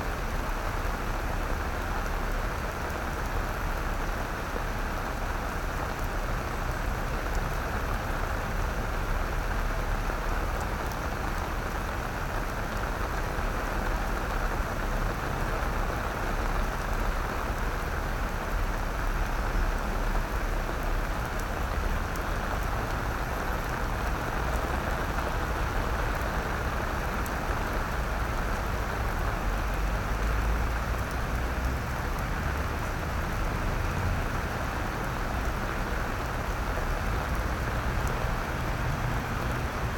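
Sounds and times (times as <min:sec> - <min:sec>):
rain on wet paving: 0:00.0 - 0:39.9.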